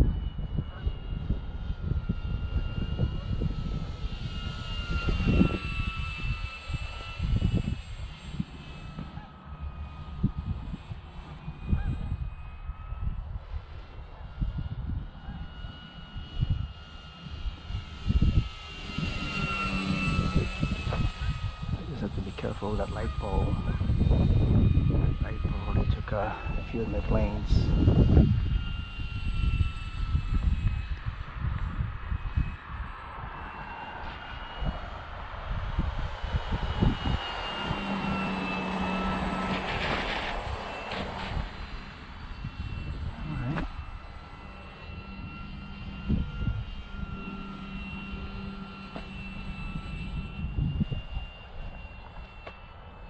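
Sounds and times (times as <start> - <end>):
wind buffeting microphone: 0.0 - 52.9
model plane motor whining: 0.0 - 53.0.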